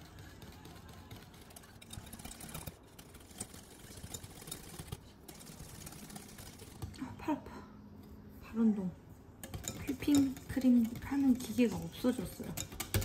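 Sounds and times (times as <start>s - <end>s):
whisk clicking against glass bowl: 0.0s - 6.9s, 9.4s - 13.0s.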